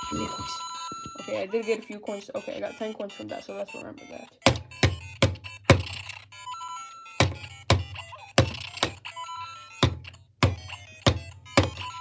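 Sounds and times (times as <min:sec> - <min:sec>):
electronic game chimes and beeps: 0:00.0 - 0:12.0.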